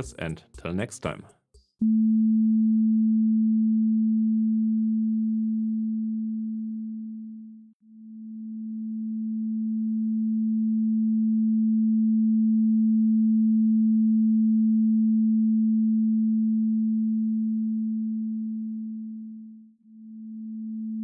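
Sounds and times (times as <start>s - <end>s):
low sine tone: 1.8s - 21.0s.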